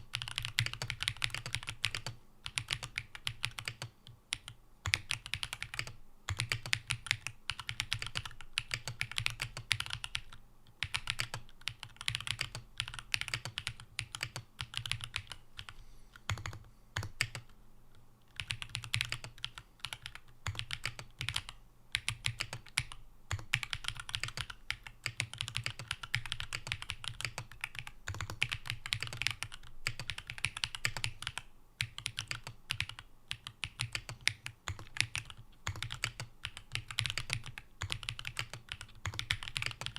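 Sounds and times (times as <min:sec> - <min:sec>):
mechanical keyboard typing: 0:00.1 - 0:17.5, 0:18.3 - 0:39.9.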